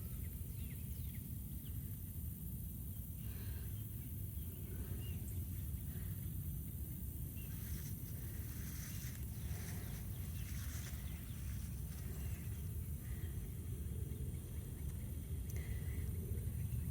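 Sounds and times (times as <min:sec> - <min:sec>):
faint bird chirps and calls: 0:02.9 - 0:16.9.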